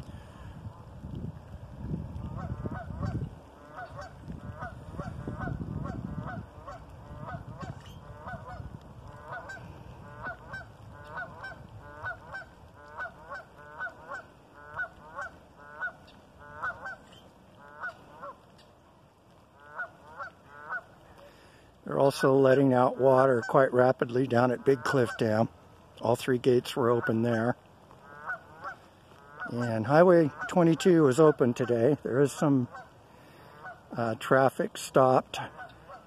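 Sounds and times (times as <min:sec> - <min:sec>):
geese honking: 0:02.2 - 0:25.5, 0:26.1 - 0:36.0.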